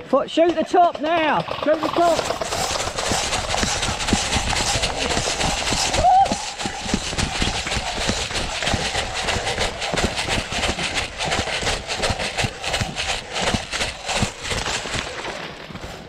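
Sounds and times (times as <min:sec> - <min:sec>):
footsteps running on wet ground: 0:00.0 - 0:16.0.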